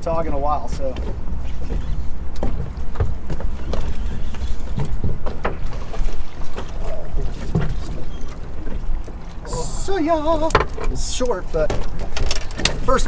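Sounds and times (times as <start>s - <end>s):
low wind rumble: 0.0s - 13.0s
water slapping boat hull: 0.0s - 13.0s.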